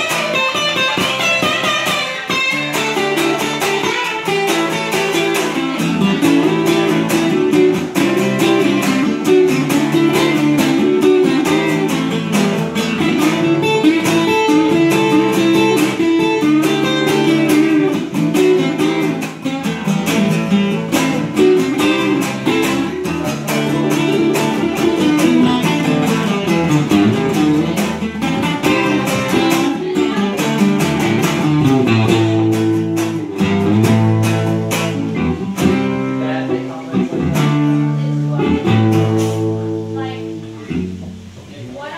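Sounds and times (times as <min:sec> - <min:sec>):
acoustic guitar picking: 0:00.0 - 0:41.9
acoustic guitar strumming: 0:00.0 - 0:41.9.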